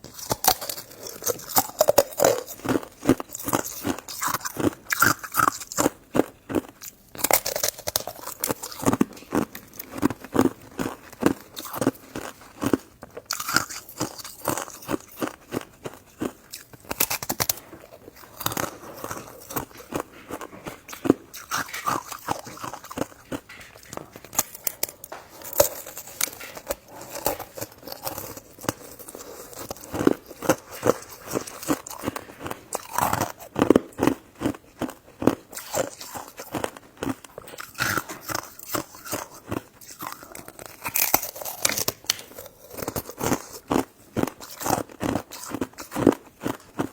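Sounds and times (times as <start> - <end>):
chewing jelly: 0.0 - 46.9.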